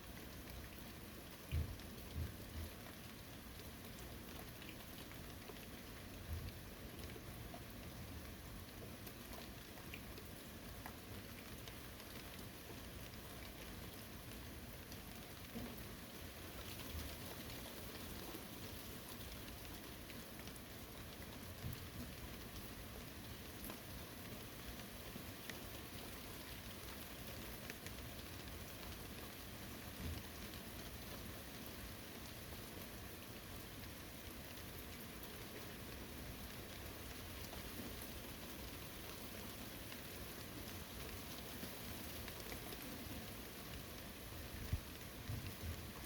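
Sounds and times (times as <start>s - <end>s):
rain on foliage: 0.0s - 46.0s.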